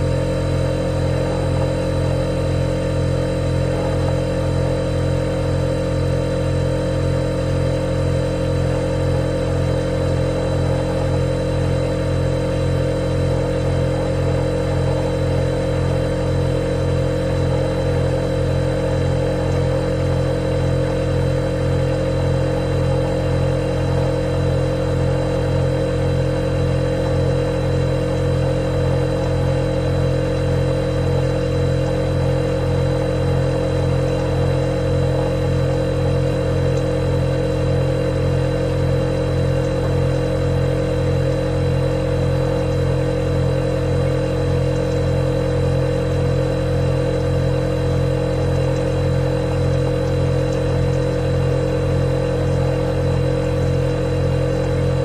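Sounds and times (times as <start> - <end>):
refrigerator humming: 0.0 - 55.0.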